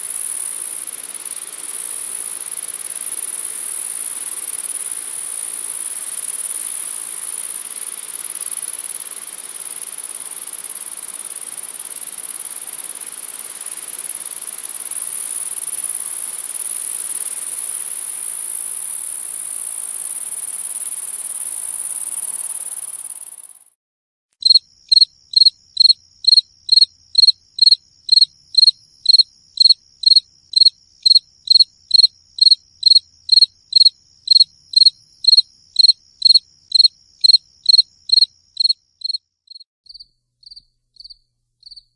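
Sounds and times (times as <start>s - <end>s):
cricket chirping: 0.0s - 23.7s, 24.4s - 41.9s
insect chorus: 0.0s - 23.7s, 24.4s - 41.9s.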